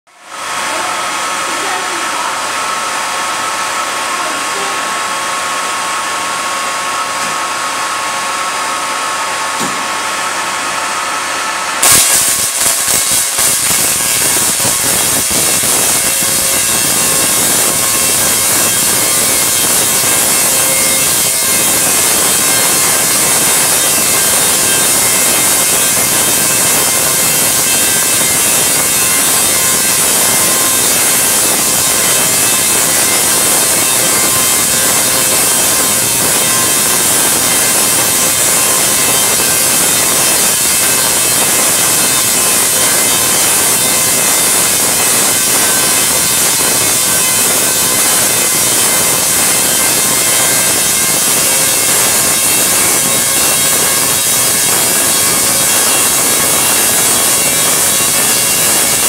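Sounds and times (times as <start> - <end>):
tesla coil electrical arcs: 9.3 - 59.0.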